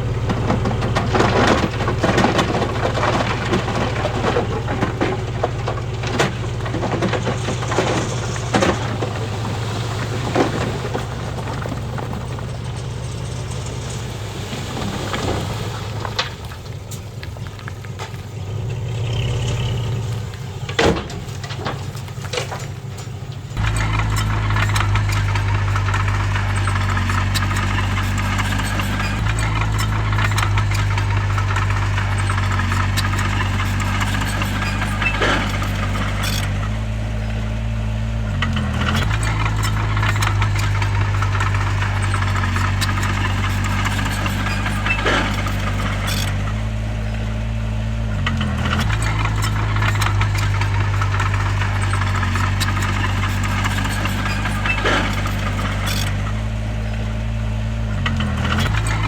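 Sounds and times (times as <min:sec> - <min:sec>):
metallic rattling and clatter: 0:00.0 - 0:37.5, 0:38.4 - 0:47.5, 0:48.1 - 0:57.1
bulldozer diesel engine running: 0:00.0 - 0:59.0.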